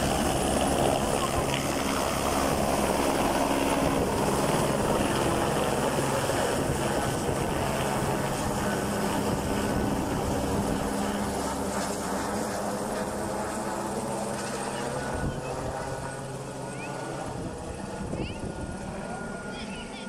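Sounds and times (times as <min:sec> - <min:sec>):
helicopter rotor and turbine: 0:00.0 - 0:20.0.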